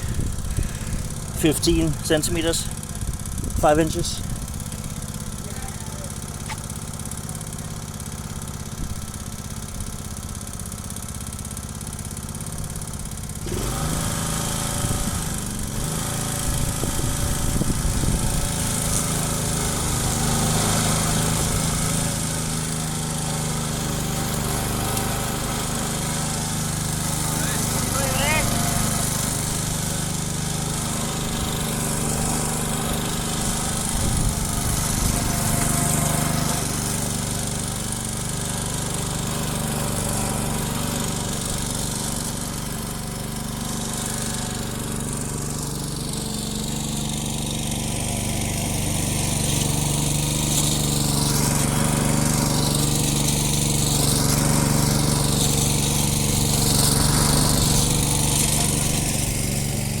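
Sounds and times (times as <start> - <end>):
lawn mower engine running: 0.0 - 60.0.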